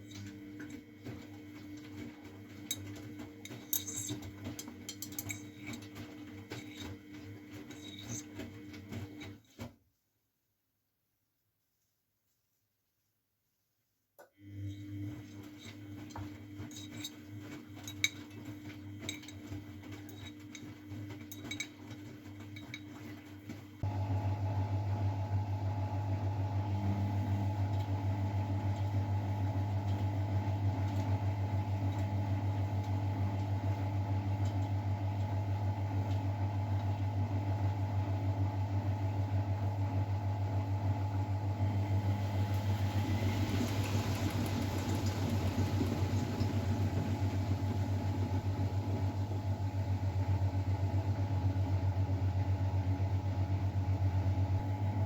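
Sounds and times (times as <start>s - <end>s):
washing machine humming: 0.0s - 9.7s, 14.3s - 55.0s.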